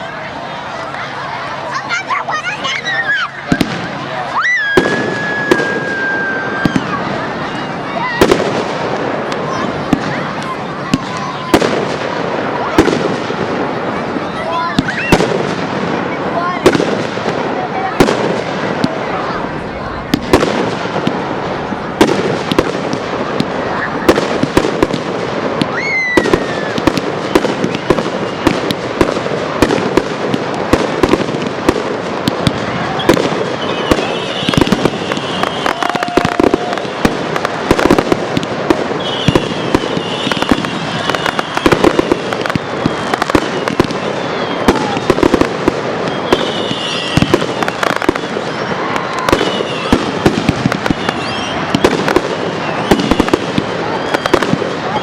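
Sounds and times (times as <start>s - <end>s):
fireworks bangs and crackling: 0.0s - 55.0s
fireworks high squeals: 1.4s - 31.7s, 32.6s - 55.0s.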